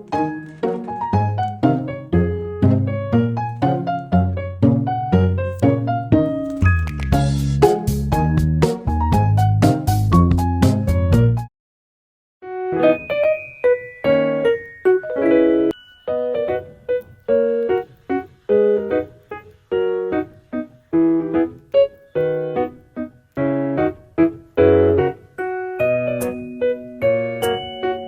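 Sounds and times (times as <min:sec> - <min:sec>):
piano music: 0:00.0 - 0:11.5, 0:12.4 - 0:28.0.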